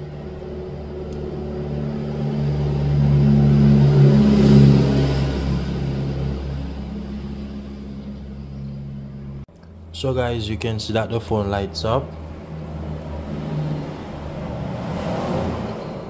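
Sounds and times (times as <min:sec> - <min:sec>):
motor vehicle engine: 0:00.0 - 0:09.9, 0:11.7 - 0:16.0
steady low hum: 0:00.0 - 0:14.8.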